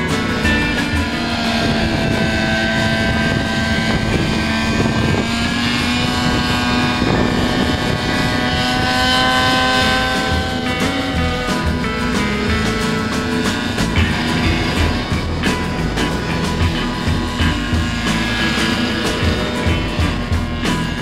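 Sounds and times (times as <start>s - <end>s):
model helicopter engine running: 0.0s - 21.0s.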